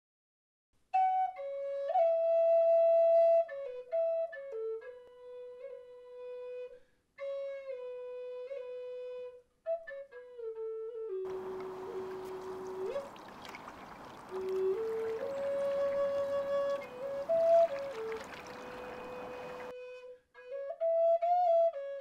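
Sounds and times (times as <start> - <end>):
solo flute melody: 0.9 - 22.0.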